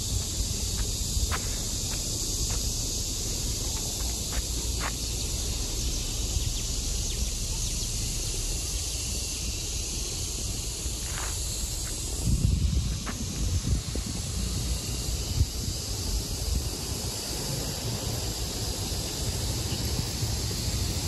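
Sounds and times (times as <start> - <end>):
high-pitched insect chorus: 0.0 - 21.0
wind rumble on microphone: 0.0 - 21.0.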